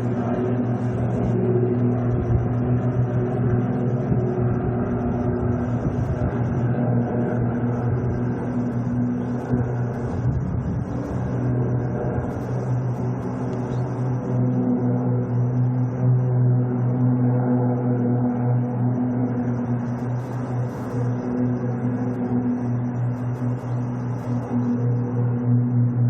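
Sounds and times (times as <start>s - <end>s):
jet engines droning: 0.0s - 26.0s.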